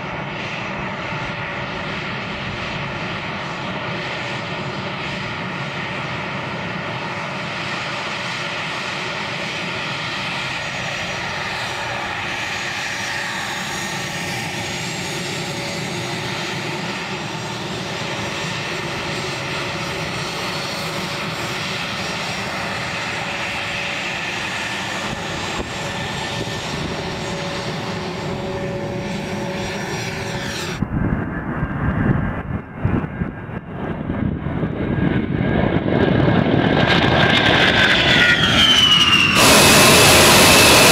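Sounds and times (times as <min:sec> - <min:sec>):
jet engine rumble: 0:00.0 - 0:40.9
jet engines whining: 0:00.0 - 0:40.9.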